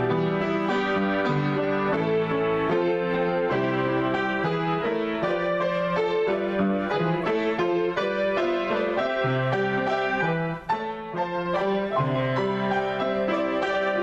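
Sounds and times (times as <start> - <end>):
piano improvisation: 0.0 - 14.0.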